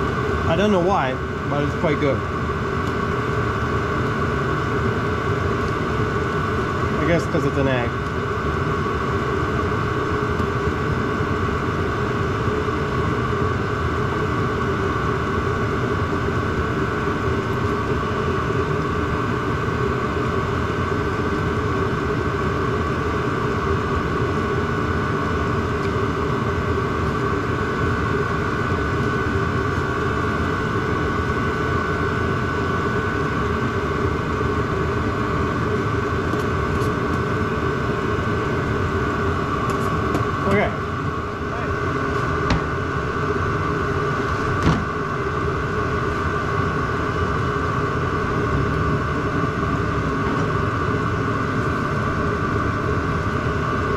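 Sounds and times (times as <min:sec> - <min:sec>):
heater blower drone: 0:00.0 - 0:53.9
steady whine: 0:00.0 - 0:53.9.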